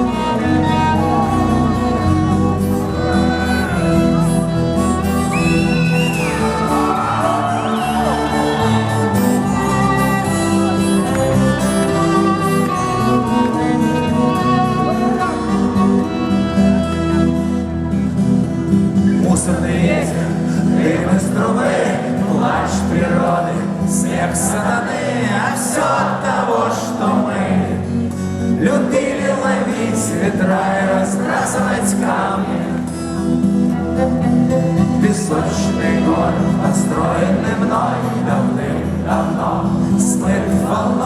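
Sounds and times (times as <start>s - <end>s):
guitar: 0.0s - 41.0s.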